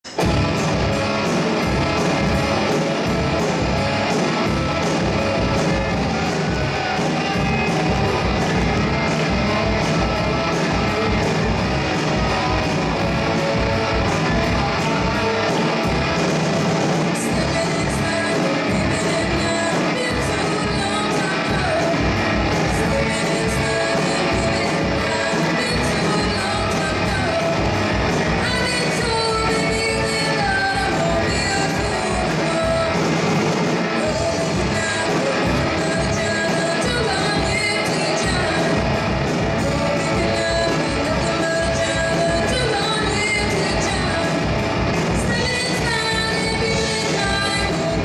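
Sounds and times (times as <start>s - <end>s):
distorted electric guitars: 0.0s - 48.0s
drum kit: 0.0s - 48.0s
electric bass: 0.0s - 48.0s.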